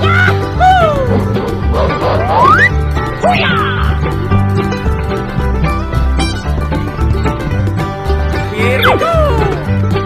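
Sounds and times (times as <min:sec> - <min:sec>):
upbeat music with plucked strings: 0:00.0 - 0:10.0.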